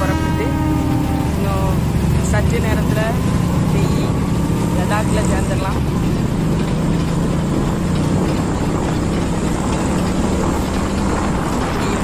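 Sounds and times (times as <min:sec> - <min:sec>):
motorbike engine running: 0:00.0 - 0:12.0
wind noise: 0:00.0 - 0:12.0.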